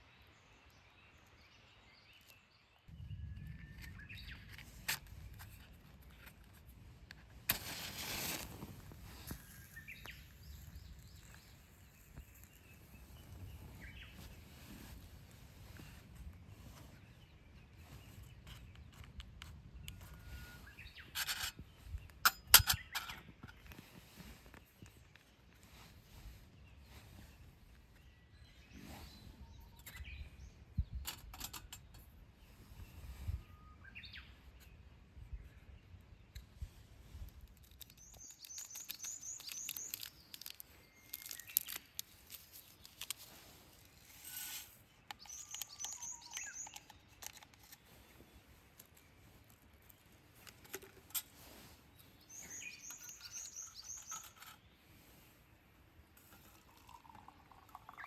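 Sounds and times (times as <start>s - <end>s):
songbird singing: 0.0s - 4.7s, 9.1s - 16.0s, 16.9s - 31.2s, 31.8s - 37.2s, 37.8s - 55.7s, 56.4s - 58.0s.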